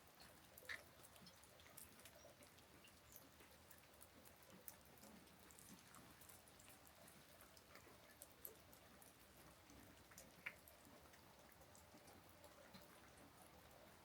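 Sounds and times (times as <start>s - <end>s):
gentle rain hiss: 0.0s - 14.0s
raindrops ticking: 0.0s - 14.0s.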